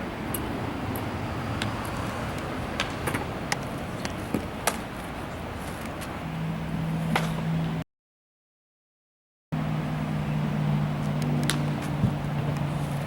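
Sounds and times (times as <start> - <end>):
outdoor background noise: 0.0 - 7.8, 9.6 - 13.0.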